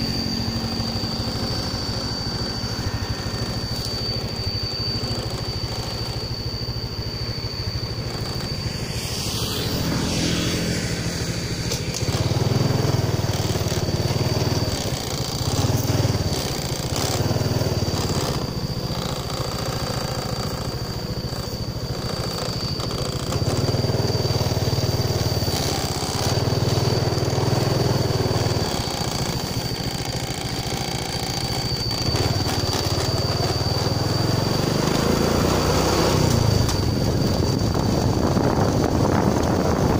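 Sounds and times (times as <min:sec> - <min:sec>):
small motorcycle engine: 0:00.0 - 0:39.9
steady high whine: 0:00.0 - 0:39.9
wind and road noise: 0:00.0 - 0:39.9.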